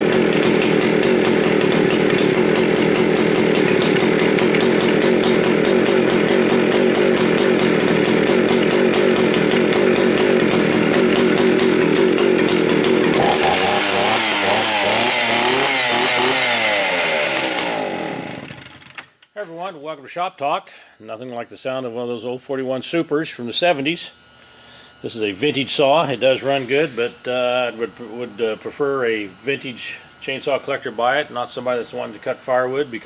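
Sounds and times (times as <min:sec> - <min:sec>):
chainsaw running at high speed: 0:00.0 - 0:19.1, 0:23.5 - 0:33.0.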